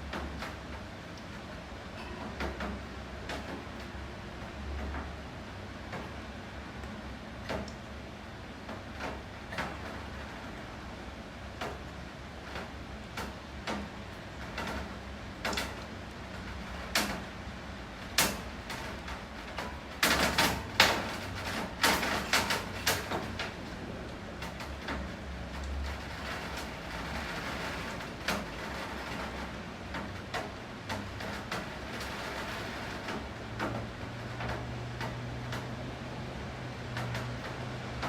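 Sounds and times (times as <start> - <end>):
rain hiss: 0.0 - 38.0
rain tapping on hard surface: 0.0 - 38.0.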